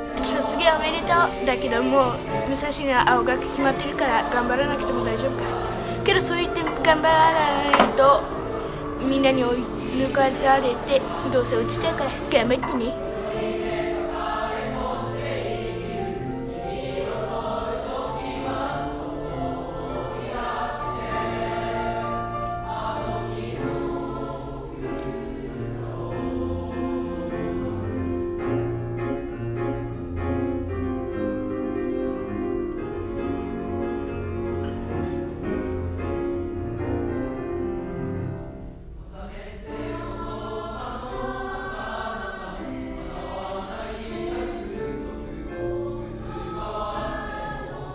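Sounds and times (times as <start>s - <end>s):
choir singing held chords: 0.0s - 47.9s.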